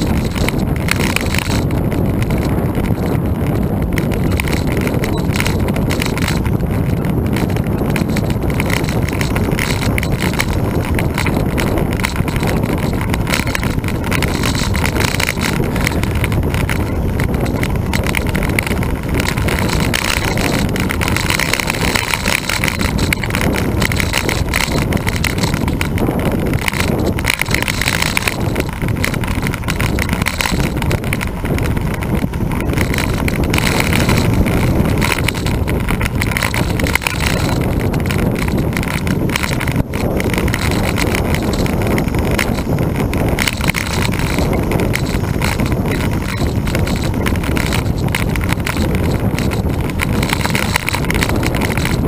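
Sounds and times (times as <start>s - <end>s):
road rumble: 0.0s - 52.0s
wind noise: 0.0s - 52.0s.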